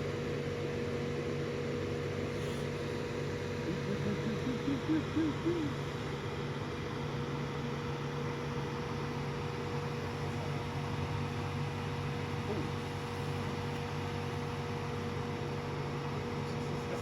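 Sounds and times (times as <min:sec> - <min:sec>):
low drone with hiss: 0:00.0 - 0:17.0.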